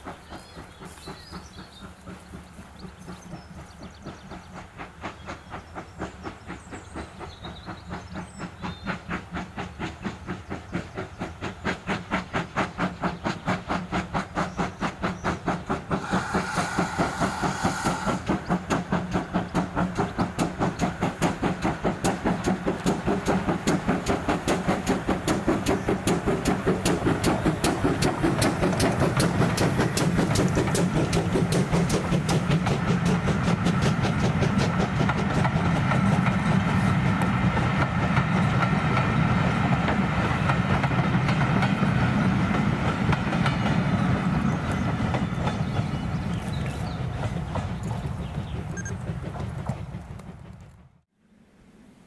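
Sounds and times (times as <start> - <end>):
coaches rumbling over rails: 0.0 - 50.9
steam locomotive chuffing: 0.0 - 51.0.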